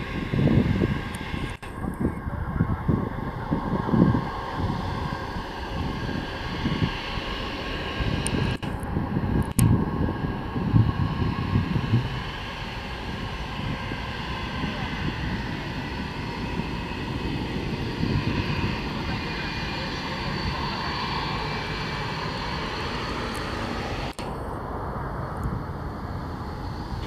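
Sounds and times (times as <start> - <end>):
jet engines whining: 0.0 - 27.0
wind gusts on microphone: 0.0 - 27.0.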